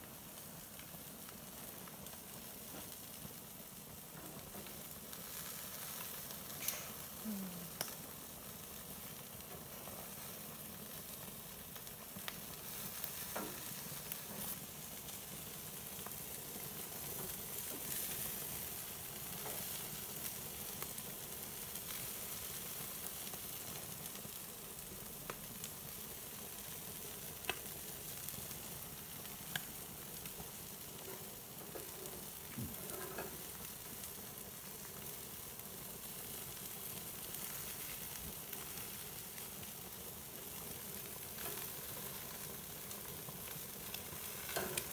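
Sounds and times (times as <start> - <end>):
fish sizzling on a grill: 0.0 - 44.9.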